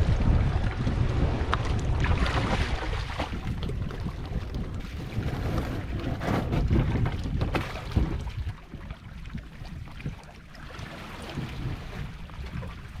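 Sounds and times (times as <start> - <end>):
water splashing around kayak: 0.0 - 13.0
wind rumbling on microphone: 0.0 - 13.0.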